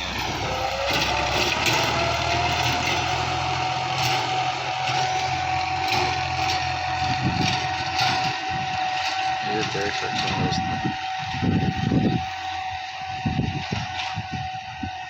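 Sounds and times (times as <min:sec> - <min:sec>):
engine whine: 0:00.0 - 0:15.0
tractor diesel engine running: 0:00.0 - 0:15.0.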